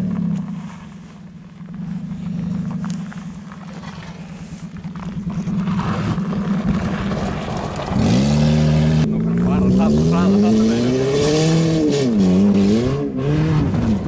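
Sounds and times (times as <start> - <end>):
tyres on gravel: 0.0 - 12.8
car engine revving: 0.0 - 14.0.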